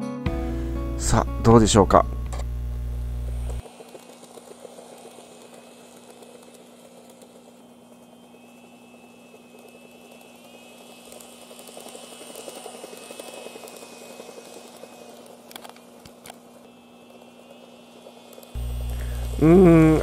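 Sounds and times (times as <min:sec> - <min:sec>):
model train motor whine: 0:00.3 - 0:20.0
rapid popping rattle: 0:03.2 - 0:19.5.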